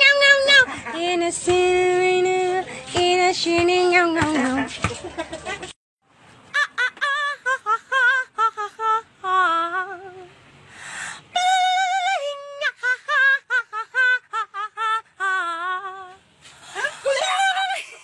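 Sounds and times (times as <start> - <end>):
high-pitched singing voice: 0.0 - 4.7, 6.5 - 10.3, 11.2 - 16.2, 16.8 - 18.0.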